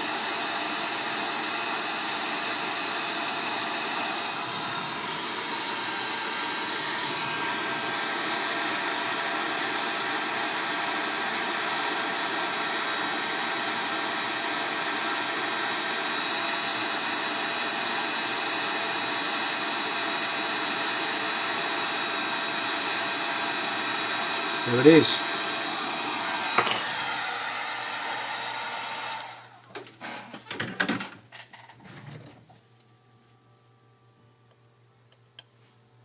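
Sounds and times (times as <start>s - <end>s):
hot air blower hissing: 0.0s - 29.9s.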